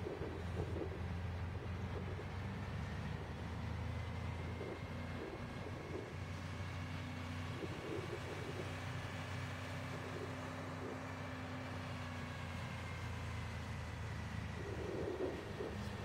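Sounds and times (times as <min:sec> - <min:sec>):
engine humming with high whine: 0:00.0 - 0:16.0.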